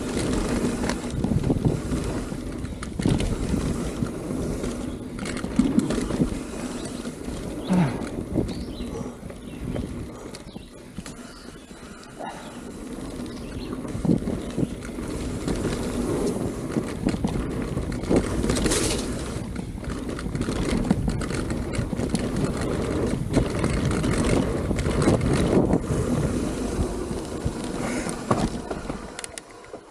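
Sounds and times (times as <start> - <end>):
bike knocks and rattles: 0.0 - 11.4, 12.2 - 29.9
tyres rolling on dirt: 0.0 - 29.9
wind on microphone: 0.0 - 29.9.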